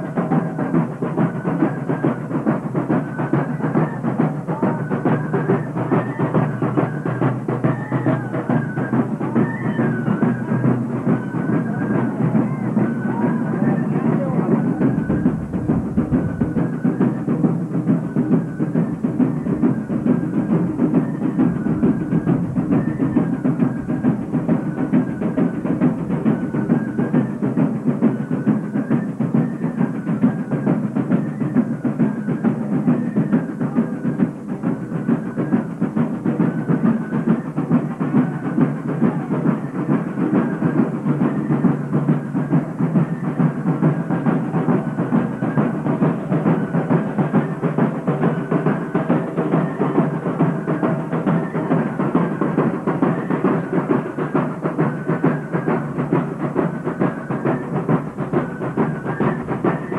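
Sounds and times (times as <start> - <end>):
steady drumming: 0.0 - 59.9.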